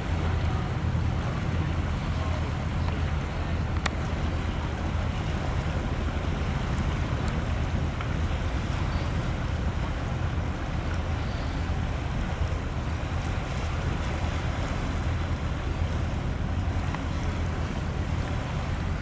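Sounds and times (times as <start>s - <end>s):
river water: 0.0s - 19.0s
wind buffeting microphone: 0.0s - 19.0s.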